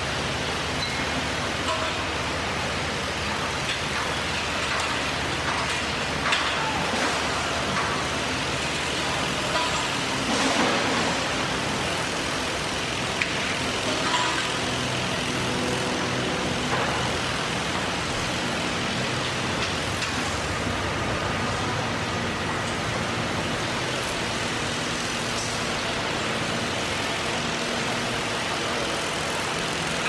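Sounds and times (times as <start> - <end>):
machinery noise: 0.0 - 30.0.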